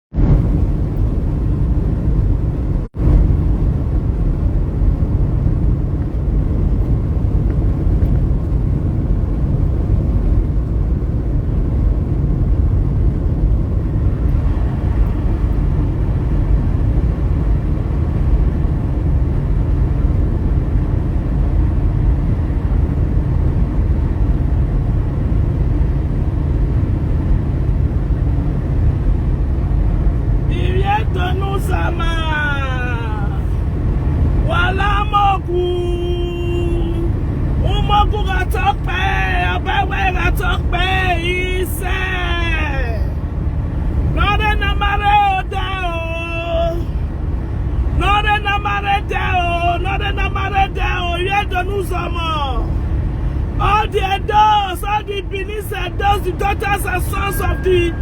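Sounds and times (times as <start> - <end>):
low rumble: 0.1 - 45.9, 54.6 - 58.0.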